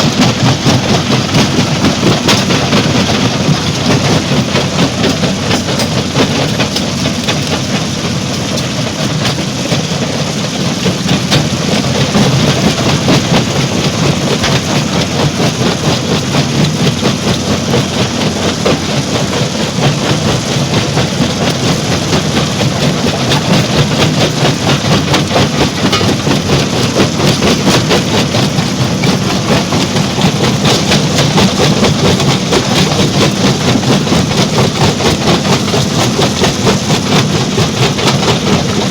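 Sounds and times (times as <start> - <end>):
stone crusher grinding and rumbling: 0.0 - 38.9.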